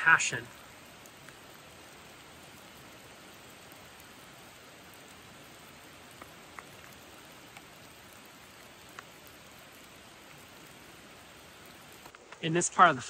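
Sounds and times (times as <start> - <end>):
rain falling on forest: 0.0 - 13.0.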